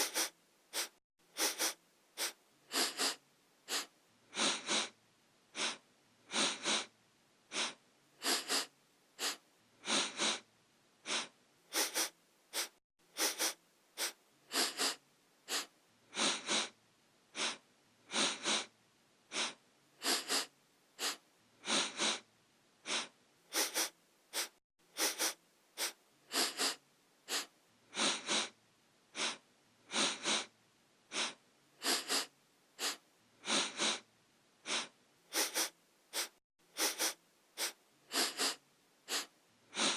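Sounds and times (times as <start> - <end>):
person sniffing: 0.0 - 6.9, 7.5 - 18.7, 19.3 - 30.5, 31.1 - 39.9.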